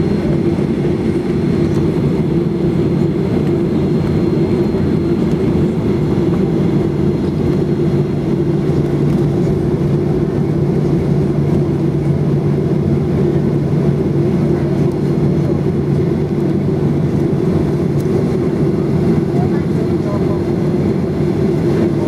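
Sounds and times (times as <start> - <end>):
jet engines droning in cabin: 0.0 - 22.0.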